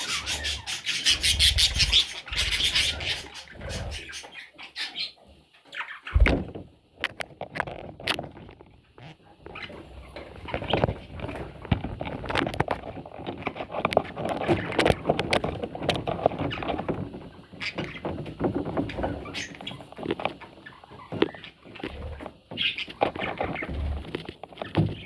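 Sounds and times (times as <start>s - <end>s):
budgerigar chicks scratching: 0.0s - 6.3s, 7.0s - 25.0s.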